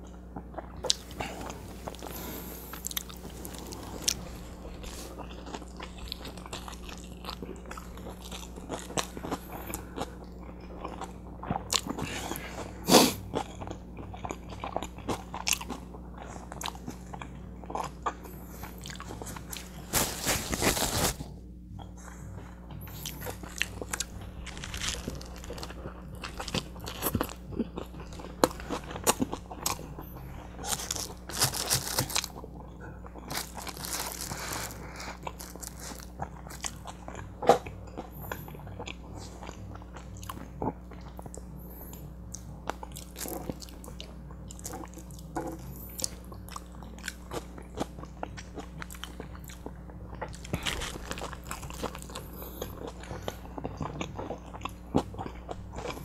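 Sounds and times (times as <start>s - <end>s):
person chewing with crunches: 0.0s - 56.0s.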